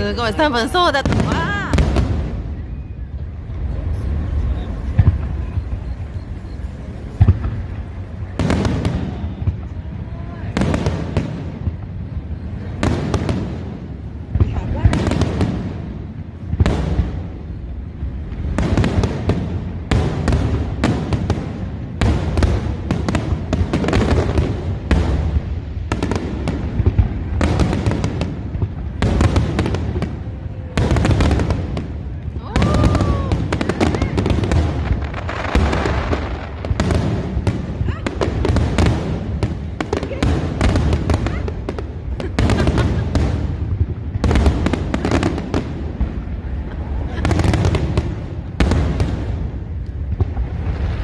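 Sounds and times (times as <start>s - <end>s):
steady low rumble: 0.0s - 32.4s, 33.2s - 51.0s
fireworks bangs: 0.0s - 51.0s.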